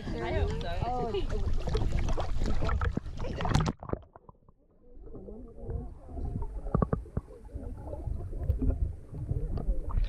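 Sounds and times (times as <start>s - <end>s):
muffled pool water sloshing: 0.0s - 10.0s.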